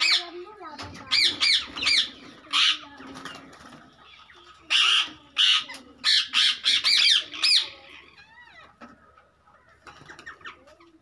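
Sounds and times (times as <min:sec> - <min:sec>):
parakeets screeching: 0:00.0 - 0:11.0.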